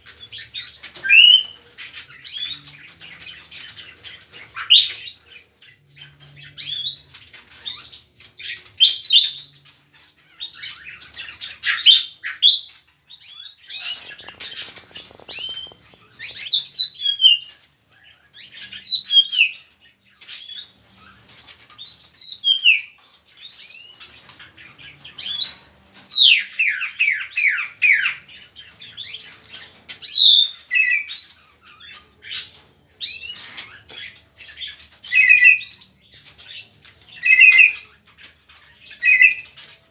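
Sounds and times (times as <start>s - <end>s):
mockingbird singing: 0.3s - 38.0s, 38.8s - 39.6s.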